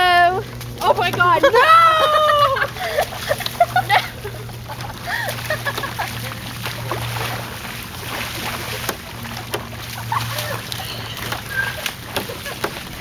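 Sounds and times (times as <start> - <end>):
bare feet splashing in puddle: 0.0 - 13.0
steady low hum: 0.0 - 13.0.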